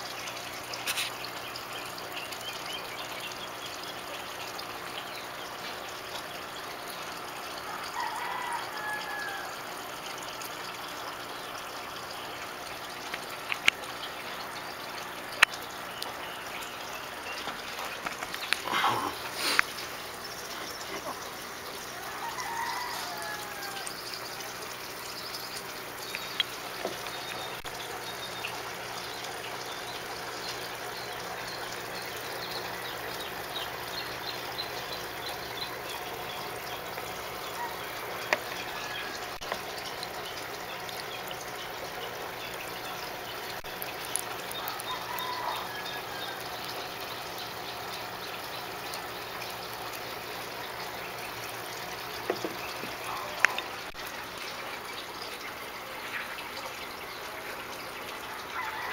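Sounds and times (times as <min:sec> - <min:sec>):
running water trickling: 0:00.0 - 0:58.9.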